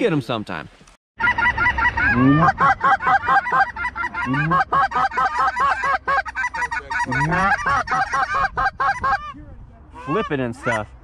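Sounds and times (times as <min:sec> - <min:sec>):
geese honking: 0:01.2 - 0:09.4, 0:10.0 - 0:11.0.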